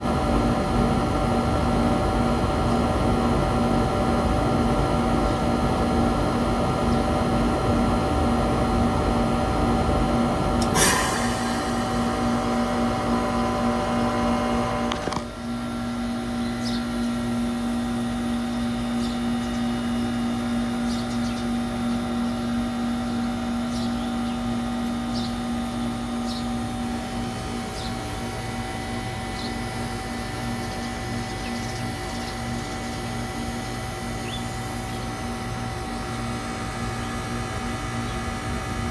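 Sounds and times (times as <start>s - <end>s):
heat pump electrical hum: 0.0s - 38.9s.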